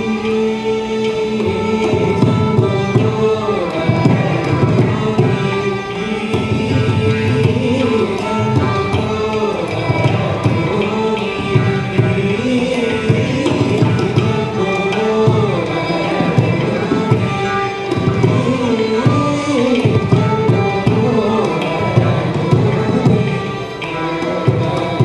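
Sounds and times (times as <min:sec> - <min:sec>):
hand percussion rhythm: 0:00.0 - 0:25.0.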